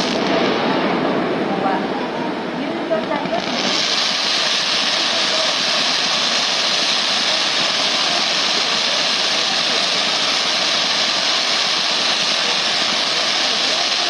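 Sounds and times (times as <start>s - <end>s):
fireworks hissing: 0.0s - 14.0s.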